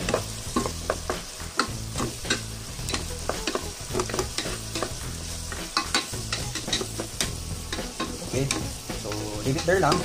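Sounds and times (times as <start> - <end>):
vegetables sizzling: 0.0 - 10.0.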